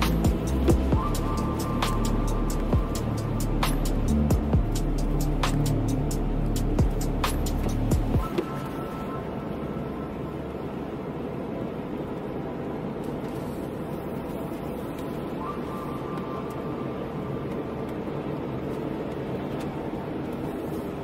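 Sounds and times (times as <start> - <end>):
car engine in cabin: 0.0 - 21.0
tyres on wet road: 0.0 - 21.0.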